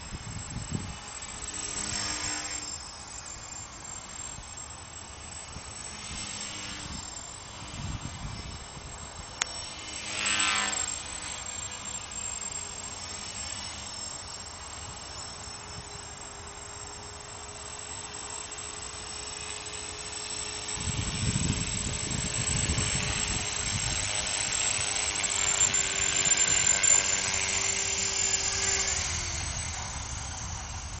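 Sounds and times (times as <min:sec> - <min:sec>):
rc helicopter rotors whining: 0:00.0 - 0:31.0.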